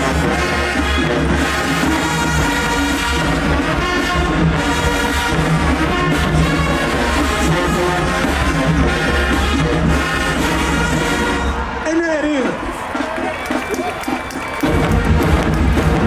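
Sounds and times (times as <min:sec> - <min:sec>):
marching band brass tune: 0:00.0 - 0:16.0.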